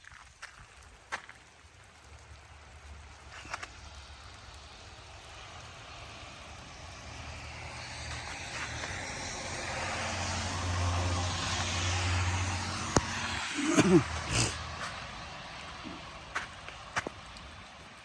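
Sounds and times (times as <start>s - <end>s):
vehicle engine and tyre noise: 0.0s - 18.0s.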